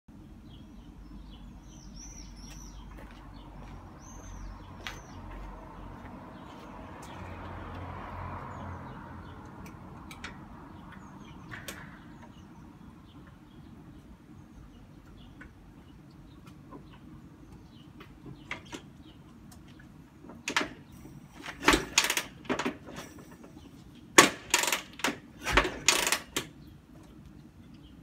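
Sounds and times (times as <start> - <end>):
low steady background rumble: 0.1 - 4.7, 8.9 - 28.0
small birds chirping: 0.1 - 21.9, 22.8 - 24.2, 26.0 - 28.0.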